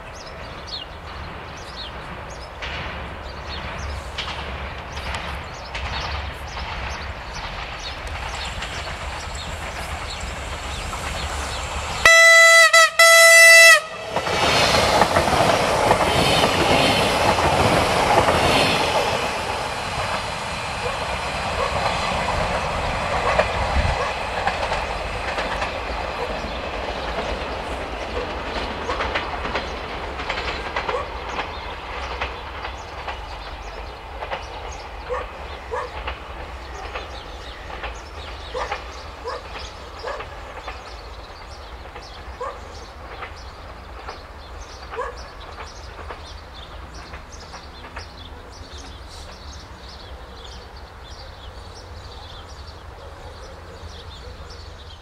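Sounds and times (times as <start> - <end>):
train rumbling past: 0.0 - 55.0
train wheels clicking over rail joints: 0.2 - 55.0.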